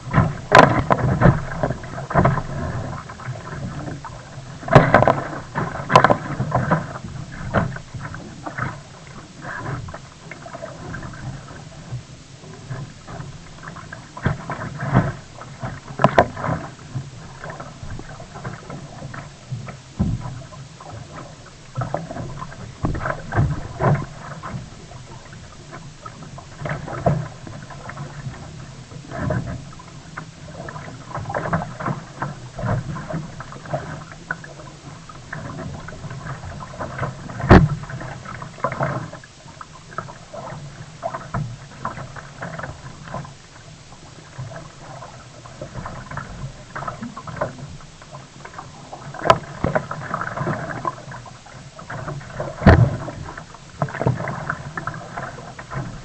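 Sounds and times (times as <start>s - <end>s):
paddle splashing water: 0.0s - 56.0s.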